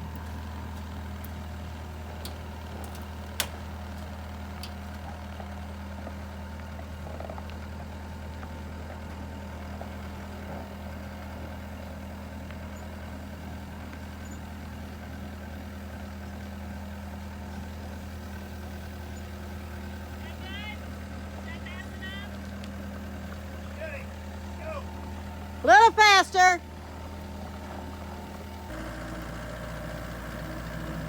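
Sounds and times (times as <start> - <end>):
heavy vehicle engine running: 0.0 - 31.0.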